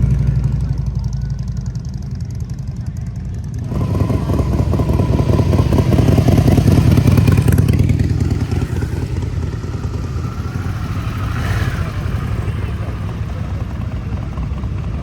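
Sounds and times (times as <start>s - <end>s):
motorcycle engine throbbing: 0.0s - 15.0s.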